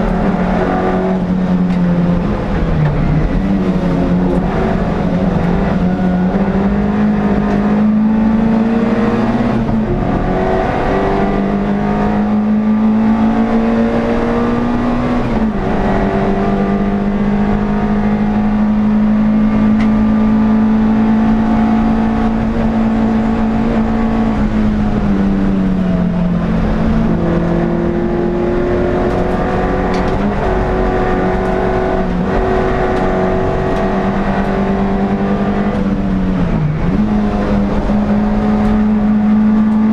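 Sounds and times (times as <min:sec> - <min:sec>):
racing engine at high revs: 0:00.0 - 0:39.9.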